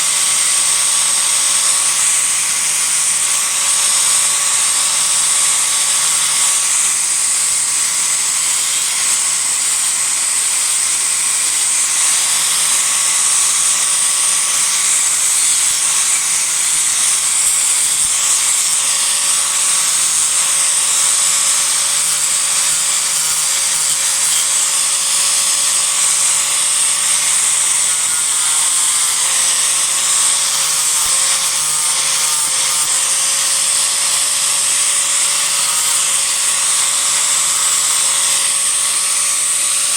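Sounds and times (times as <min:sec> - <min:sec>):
disc grinder grinding wood: 0:00.0 - 0:39.9.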